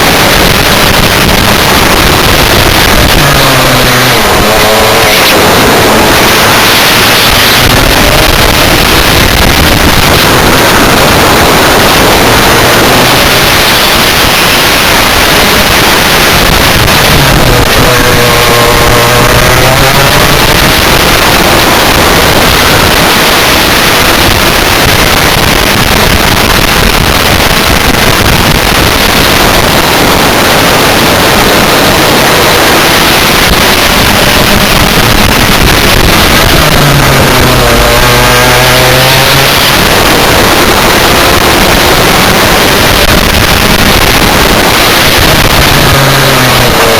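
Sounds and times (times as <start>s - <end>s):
kart engine running hard: 0.0s - 46.9s
wind rush: 0.0s - 46.9s.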